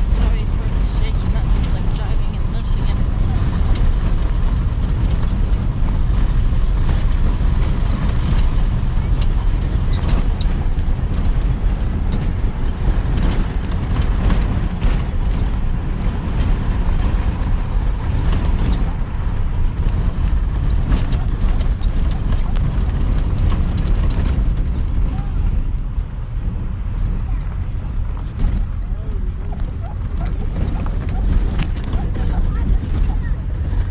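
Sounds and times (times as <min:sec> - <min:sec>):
light rattles and clicks: 0:00.0 - 0:33.9
vehicle road rumble: 0:00.0 - 0:33.9.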